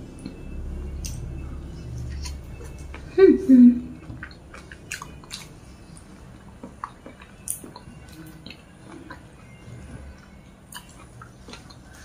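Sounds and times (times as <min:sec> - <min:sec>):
person chewing food: 0:00.0 - 0:03.2, 0:03.9 - 0:12.0.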